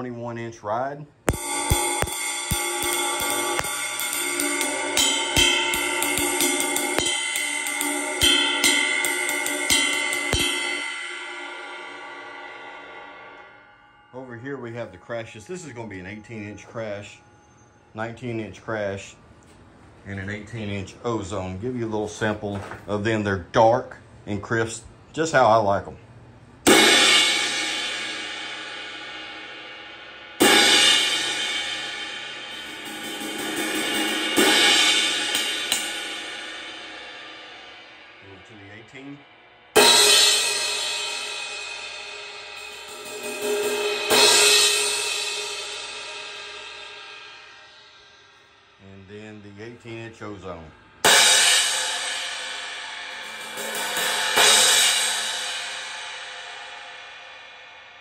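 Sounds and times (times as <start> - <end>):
ride cymbal struck with stick: 1.2 - 17.9, 26.7 - 38.3, 39.1 - 48.9, 49.6 - 58.0.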